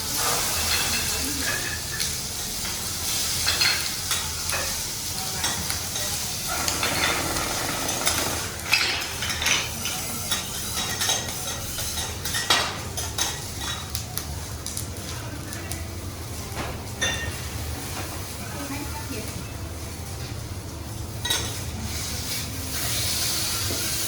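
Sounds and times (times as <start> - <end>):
food sizzling on a griddle: 0.0 - 24.0.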